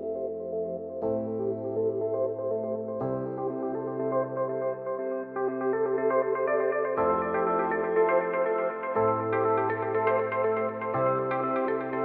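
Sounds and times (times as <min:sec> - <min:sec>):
ambient synthesizer chords: 0:00.0 - 0:12.0.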